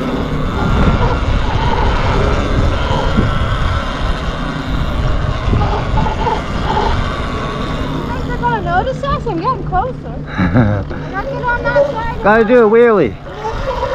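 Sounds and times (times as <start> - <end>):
vehicle drone: 0.0 - 13.9
wind rumble while riding: 0.0 - 13.9.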